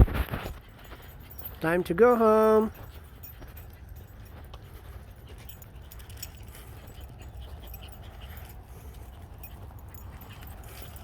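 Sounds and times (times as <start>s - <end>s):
dog collar tags jingling: 0.3s - 11.0s.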